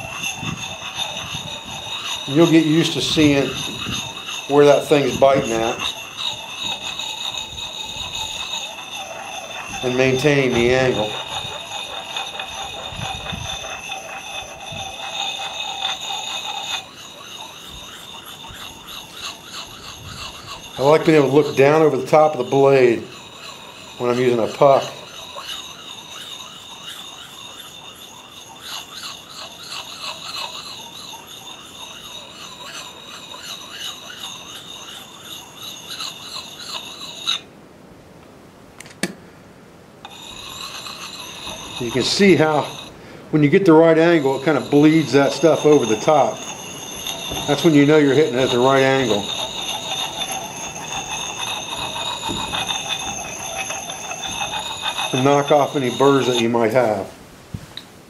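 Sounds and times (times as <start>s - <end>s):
sharpening puck rasping on axe: 0.0s - 37.4s, 40.0s - 57.1s
high ringing squeal: 0.0s - 37.5s, 40.0s - 57.1s.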